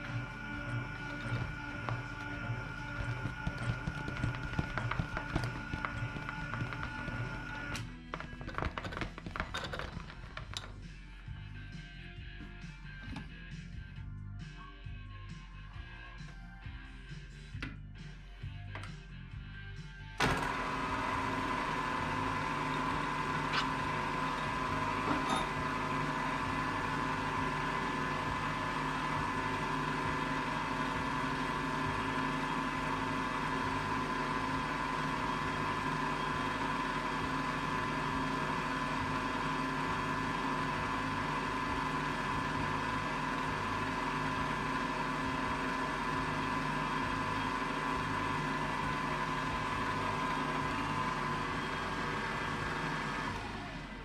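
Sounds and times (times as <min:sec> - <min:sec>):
milling machine humming: 0:00.0 - 0:10.8, 0:20.2 - 0:54.0.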